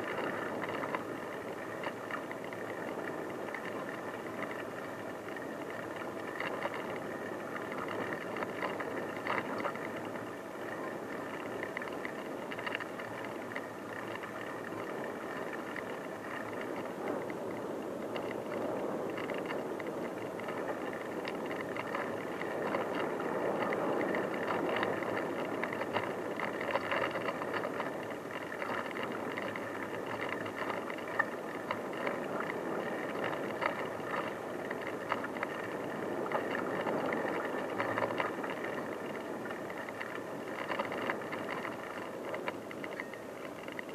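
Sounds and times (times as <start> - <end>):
bicycle tyres on unpaved track: 0.0 - 43.9
bike rattles and clicks: 0.0 - 43.9.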